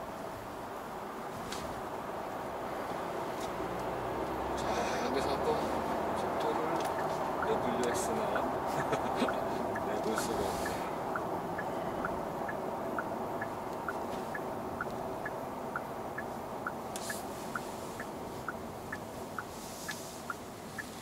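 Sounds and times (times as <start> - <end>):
car engine and road noise: 0.0 - 21.0
turn signal ticking: 3.8 - 21.0.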